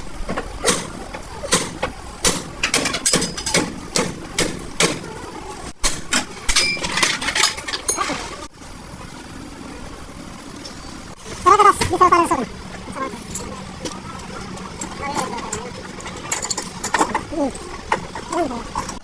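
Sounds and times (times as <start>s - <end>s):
workshop noise: 0.0s - 8.5s, 10.4s - 19.0s.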